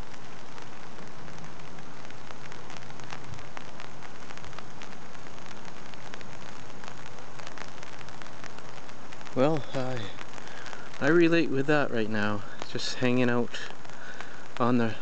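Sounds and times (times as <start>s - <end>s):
rain falling on a pond: 0.0s - 15.0s.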